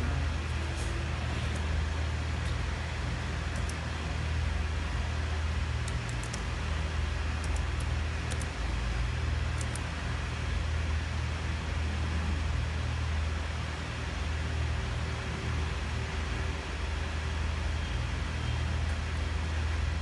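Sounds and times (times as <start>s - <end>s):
low electrical hum with hiss: 0.0s - 20.0s.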